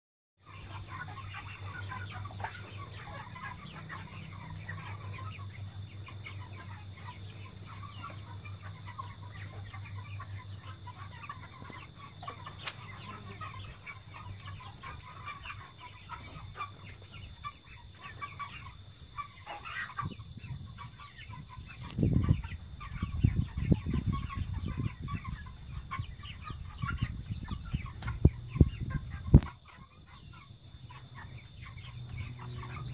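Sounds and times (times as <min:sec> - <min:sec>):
chickens cheeping and clucking: 0:00.4 - 0:32.9.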